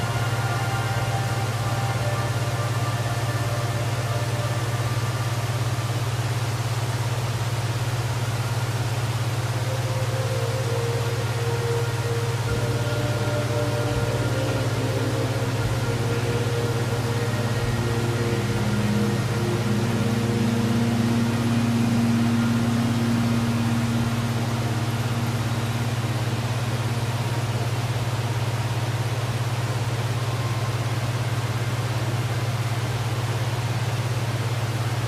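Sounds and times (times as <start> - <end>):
waterfall rushing: 0.0 - 34.3.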